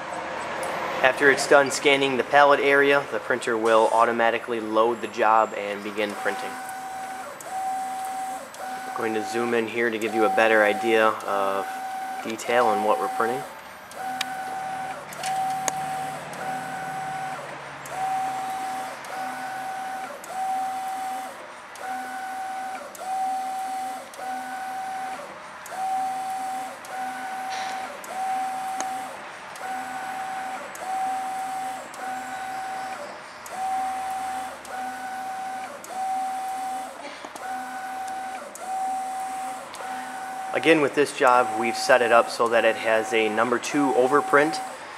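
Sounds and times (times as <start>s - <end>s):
printer carriage whining motor: 0.0s - 44.9s.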